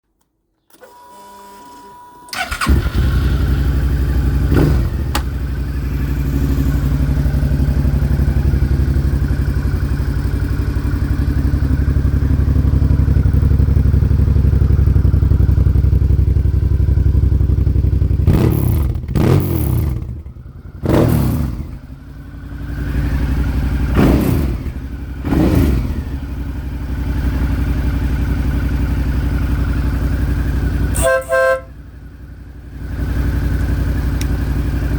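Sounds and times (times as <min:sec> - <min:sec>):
motorcycle engine idling and revving: 0:02.4 - 0:34.9.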